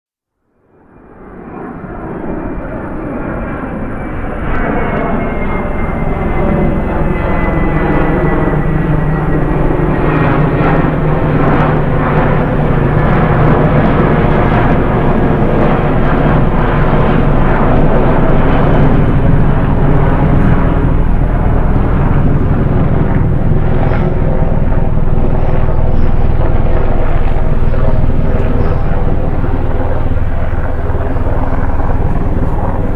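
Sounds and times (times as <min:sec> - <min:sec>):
aircraft engines droning: 0:00.6 - 0:32.9.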